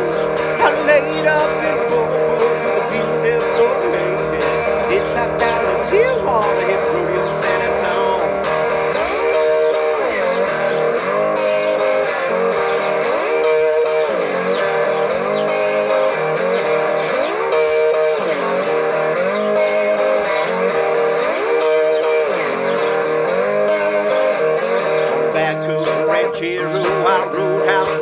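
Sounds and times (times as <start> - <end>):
electric guitar with gliding notes: 0.0 - 28.0.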